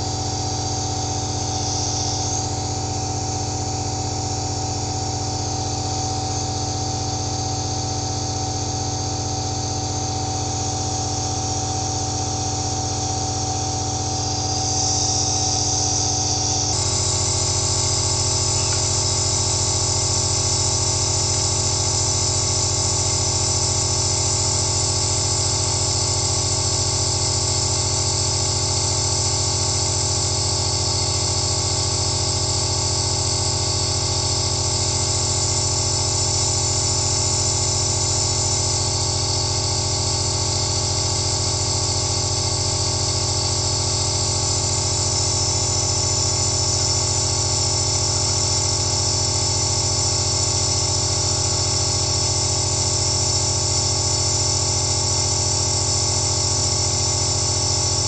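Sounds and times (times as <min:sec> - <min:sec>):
nebulizer motor hum: 0:00.0 - 0:58.0.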